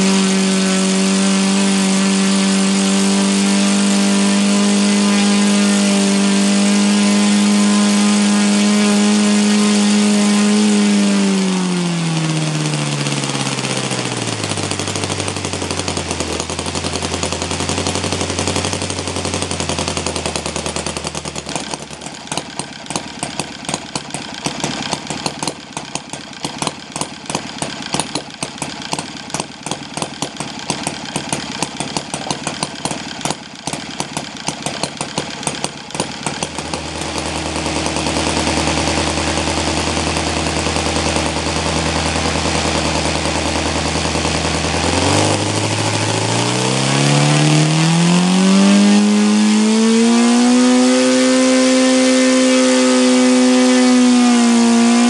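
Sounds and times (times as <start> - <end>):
model engine turning propeller: 0.0 - 55.0.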